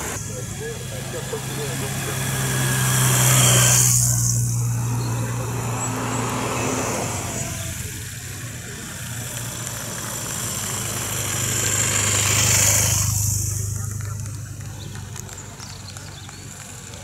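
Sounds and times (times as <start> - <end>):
car and motorbike engines passing: 0.0 - 17.0.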